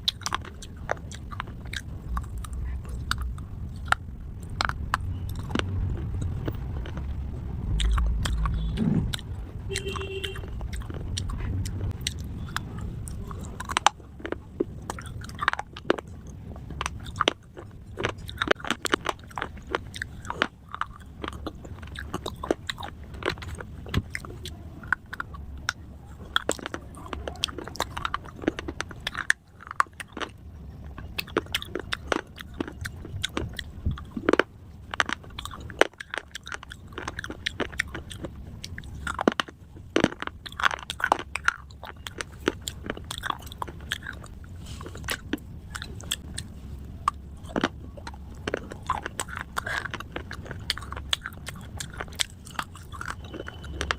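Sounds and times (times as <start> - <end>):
grinding chewing: 0.0 - 53.9.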